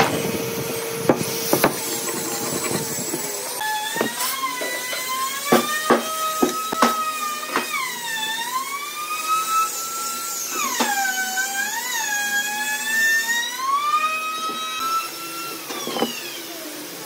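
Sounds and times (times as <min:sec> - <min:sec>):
high-pitched power tool whine: 0:00.0 - 0:17.0.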